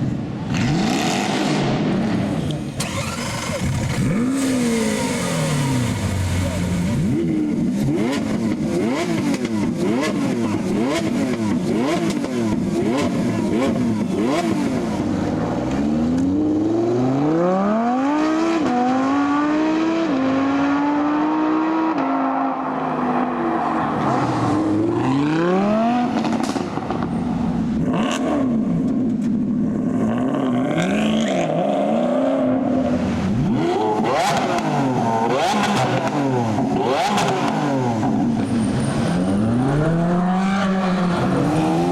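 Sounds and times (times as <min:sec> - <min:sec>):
sports car engine revving: 0:00.5 - 0:28.9, 0:29.6 - 0:41.9.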